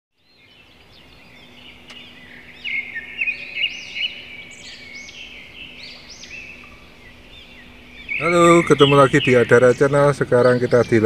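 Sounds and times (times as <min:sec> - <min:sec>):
birds chirping and twittering: 0:00.2 - 0:11.0
faint steady hum: 0:00.2 - 0:11.0.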